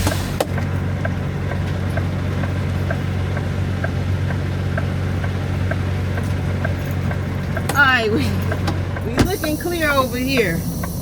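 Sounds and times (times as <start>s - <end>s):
diesel engine idling: 0.0s - 11.0s
turn signal clicking: 0.0s - 11.0s.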